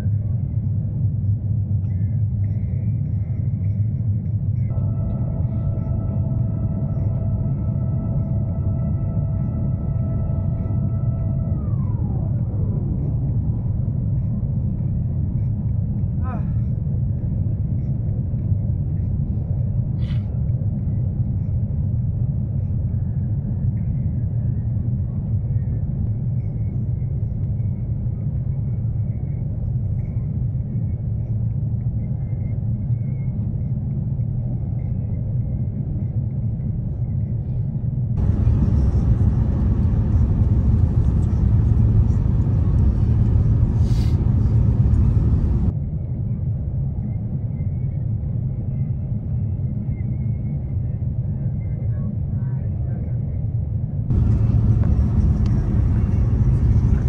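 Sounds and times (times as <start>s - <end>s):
airliner cabin rumble: 0.0s - 45.8s, 50.2s - 57.0s.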